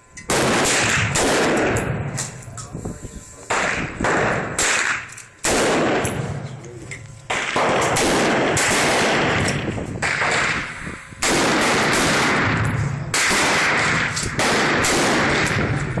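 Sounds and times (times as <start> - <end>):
rifle shots ringing: 0.2 - 2.6, 3.5 - 16.0.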